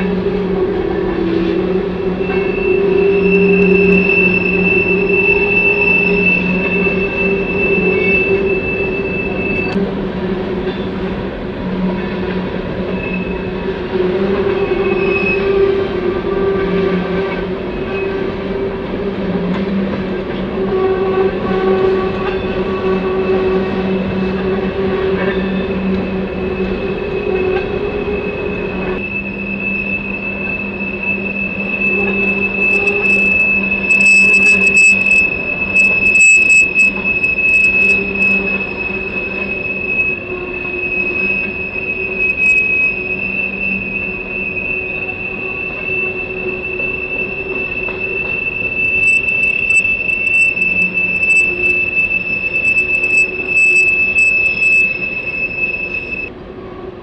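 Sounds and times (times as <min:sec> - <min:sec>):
train wheels squealing: 0:00.0 - 0:09.9, 0:10.5 - 0:56.3.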